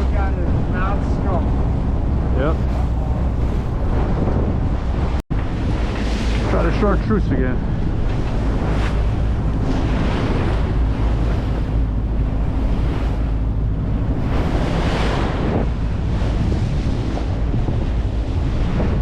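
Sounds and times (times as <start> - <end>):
low rumble: 0.0 - 19.0
sea water washing: 0.0 - 19.0
wind buffeting microphone: 0.0 - 19.0.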